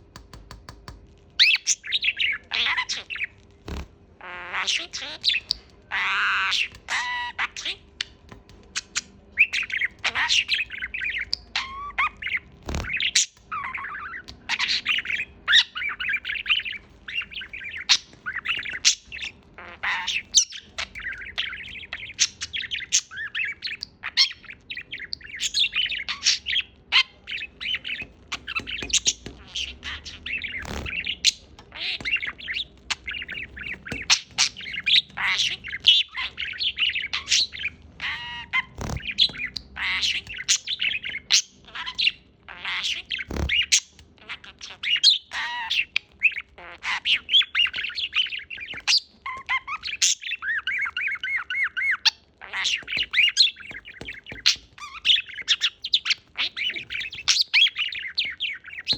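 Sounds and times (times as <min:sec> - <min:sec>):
parrot squawking and chirping: 0:01.4 - 0:58.9.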